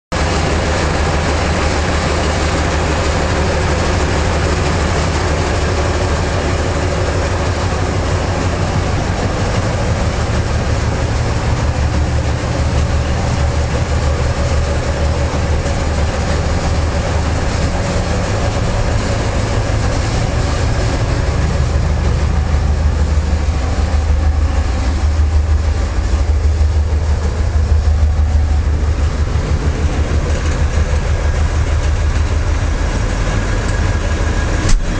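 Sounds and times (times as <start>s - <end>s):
diesel locomotive engine droning: 0.1s - 34.9s.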